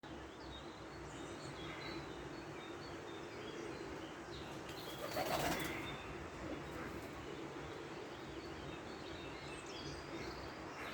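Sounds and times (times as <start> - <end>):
steady background noise: 0.0 - 10.9.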